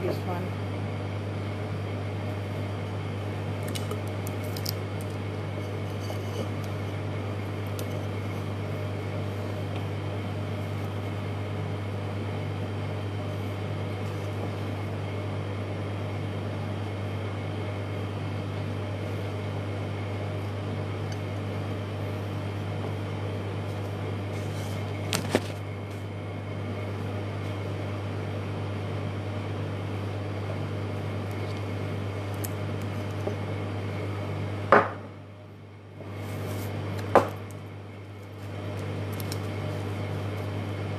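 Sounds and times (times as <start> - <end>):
low machine hum: 0.0 - 40.9.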